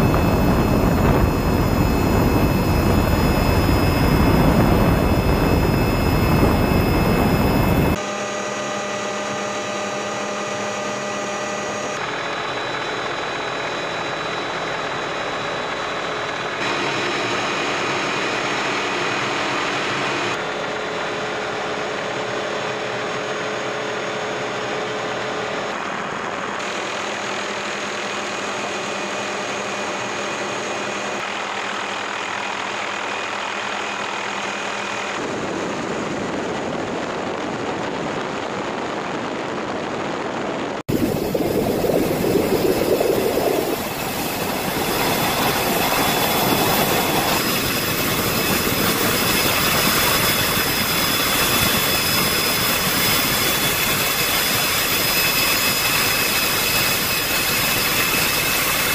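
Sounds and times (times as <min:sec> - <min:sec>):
helicopter engine hum: 0:00.0 - 0:58.9.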